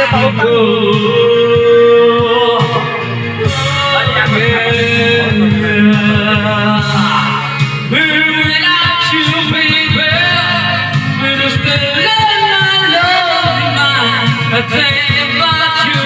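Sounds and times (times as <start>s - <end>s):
backing music track: 0.0s - 16.0s
man singing into microphone: 0.0s - 16.0s.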